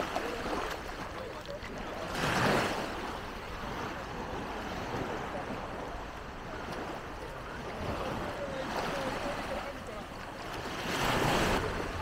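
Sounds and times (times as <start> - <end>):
waves washing: 0.0 - 12.0.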